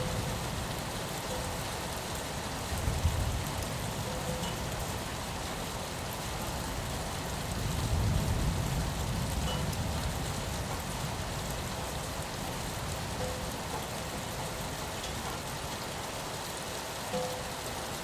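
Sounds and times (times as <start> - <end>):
rain pattering on window glass: 0.0 - 18.0.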